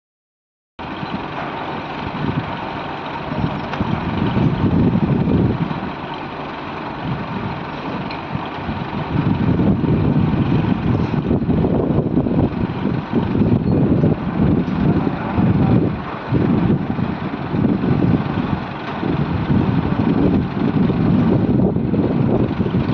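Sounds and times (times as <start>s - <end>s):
heavy machine engine running: 0.8s - 22.9s.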